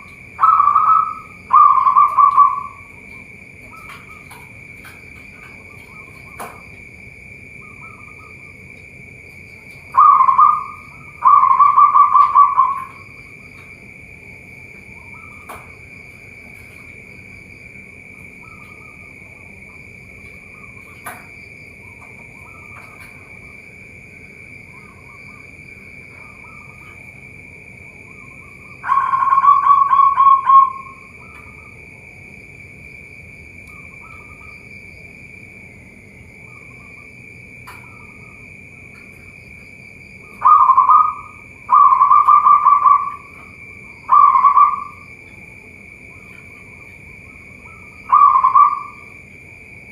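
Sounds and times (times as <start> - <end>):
doves cooing: 0.0 - 32.4, 36.0 - 49.4
high insect drone: 0.0 - 49.9.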